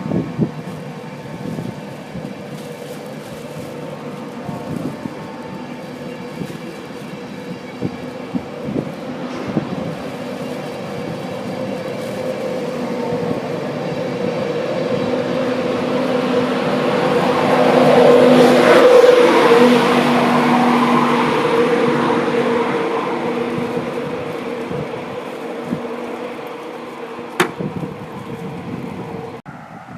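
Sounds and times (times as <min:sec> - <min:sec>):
train approaching: 0:00.0 - 0:29.9.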